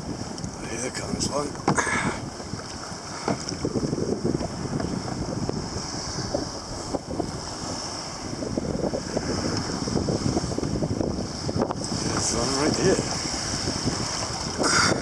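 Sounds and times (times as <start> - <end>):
water splashing against kayak hull: 0.0 - 15.0
wind buffeting microphone: 0.0 - 15.0.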